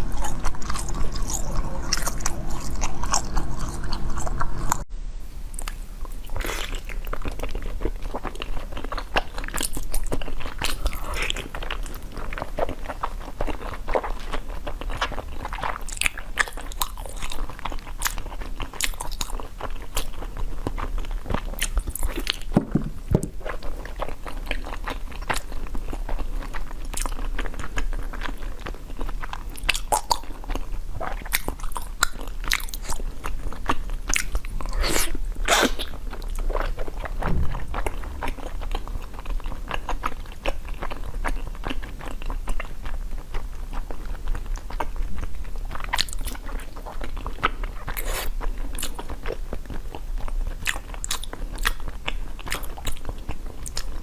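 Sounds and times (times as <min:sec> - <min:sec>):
crunchy chewing: 0:00.0 - 0:04.8, 0:05.6 - 0:22.6, 0:23.2 - 0:54.0.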